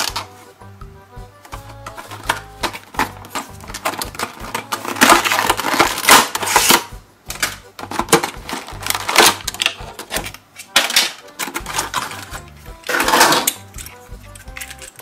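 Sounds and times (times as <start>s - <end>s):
plastic packaging crackling: 1.5s - 15.0s.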